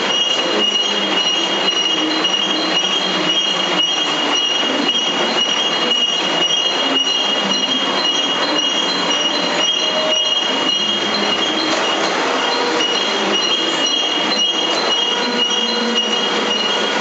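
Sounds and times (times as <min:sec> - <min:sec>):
high-pitched machine whine: 0:00.0 - 0:17.0
steady machine noise: 0:00.0 - 0:17.0.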